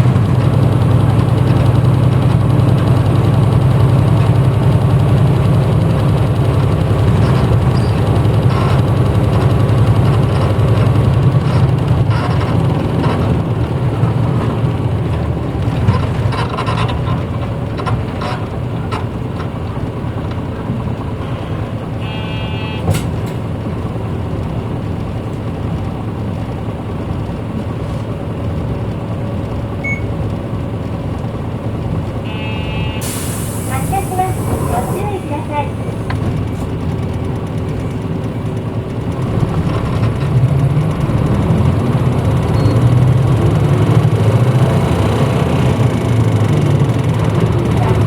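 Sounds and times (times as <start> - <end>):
bus diesel engine droning: 0.0 - 48.0.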